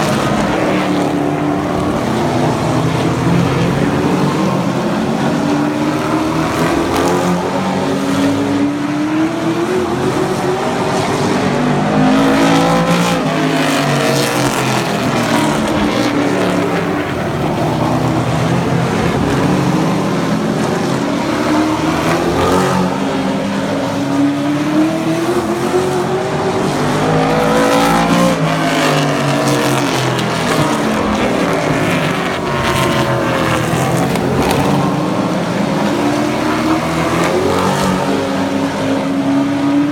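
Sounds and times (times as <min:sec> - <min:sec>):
race truck engines revving past: 0:00.0 - 0:39.9.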